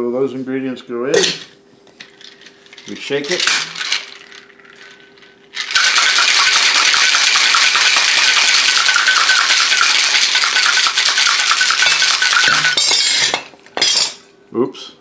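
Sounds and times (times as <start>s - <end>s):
ice rattling in cocktail shaker: 2.0s - 14.1s.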